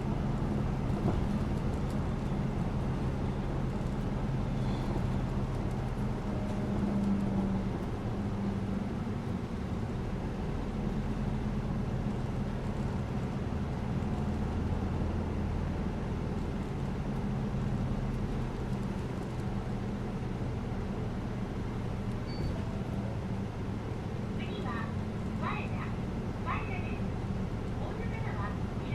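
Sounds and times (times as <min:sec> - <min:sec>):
bus engine hum: 0:00.0 - 0:28.9
road noise: 0:00.0 - 0:28.9.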